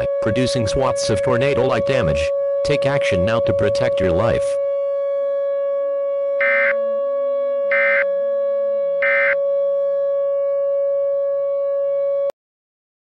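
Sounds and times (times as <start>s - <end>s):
slow low background notes: 0.0s - 12.3s
steady droning tone: 0.0s - 12.3s.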